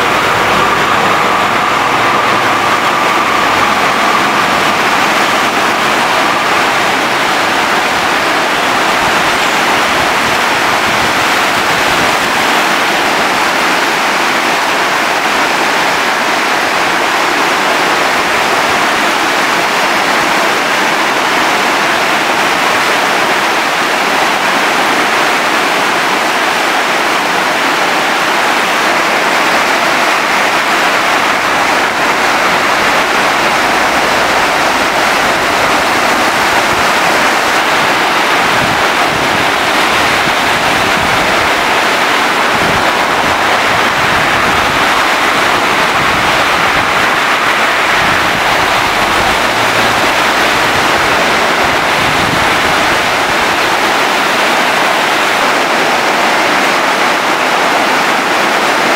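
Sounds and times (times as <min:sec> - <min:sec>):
floodwater rushing through rapids: 0:00.0 - 0:58.9.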